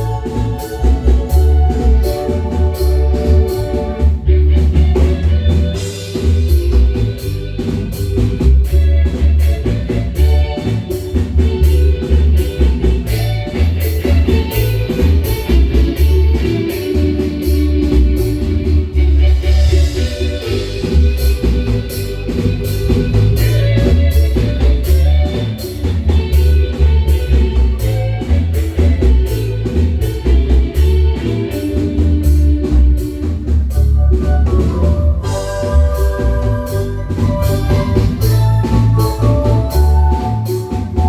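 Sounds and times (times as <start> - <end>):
drum kit beat: 0.0 - 41.0
heavy bass line: 0.0 - 41.0
marimba: 0.0 - 41.0.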